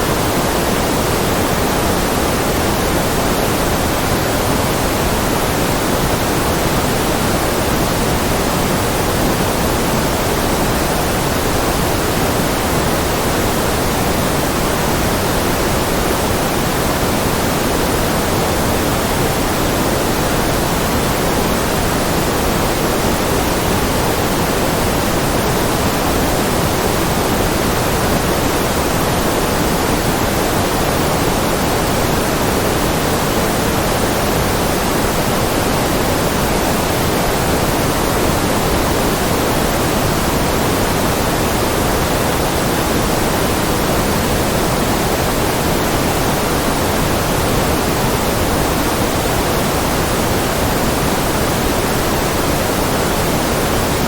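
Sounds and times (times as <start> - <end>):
steady electronic pink noise: 0.0 - 54.0.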